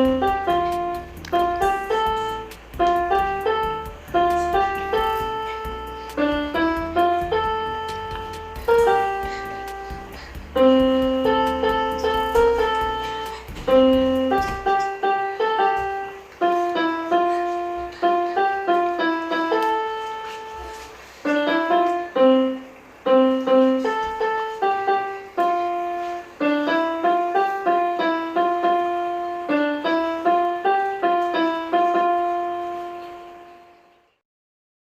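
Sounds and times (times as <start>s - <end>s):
electronic keyboard piano melody: 0.0s - 34.2s.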